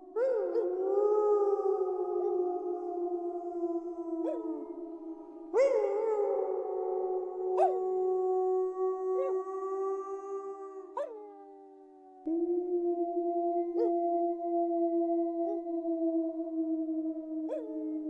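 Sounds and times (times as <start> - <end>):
wolves howling: 0.0 - 18.0.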